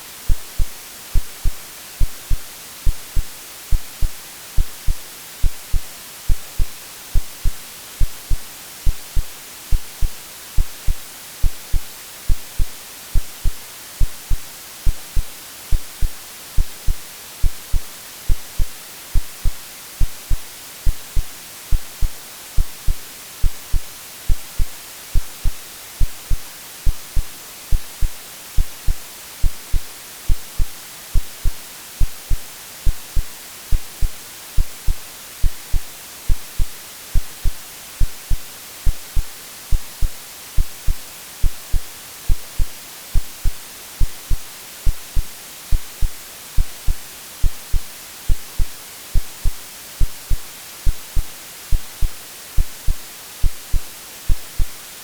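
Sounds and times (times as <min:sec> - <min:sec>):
white noise hissing: 0:00.0 - 0:55.0.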